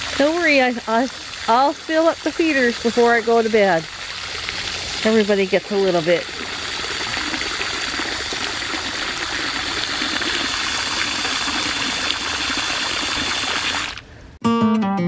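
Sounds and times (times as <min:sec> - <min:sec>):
water jet splashing into basin: 0:00.0 - 0:14.0.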